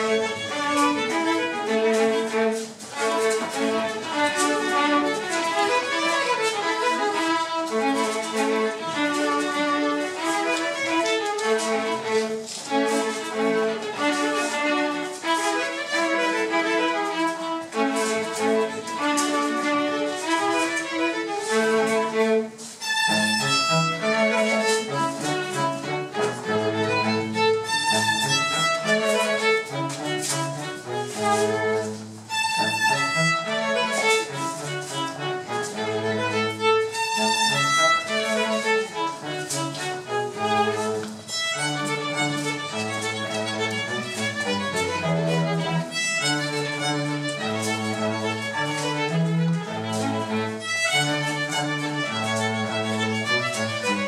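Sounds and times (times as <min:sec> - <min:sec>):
cello: 0:00.0 - 0:54.0
violin playing dance tune: 0:00.0 - 0:54.0.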